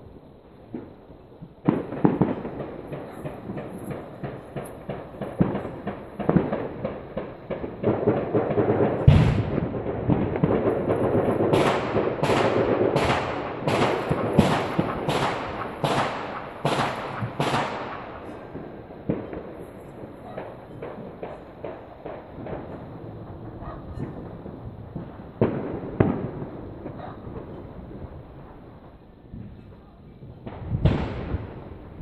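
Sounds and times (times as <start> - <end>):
fireworks crackles and pops: 0.0 - 32.0
sharp echoing firework bangs: 0.6 - 32.0
heavy firework boom: 1.7 - 28.2.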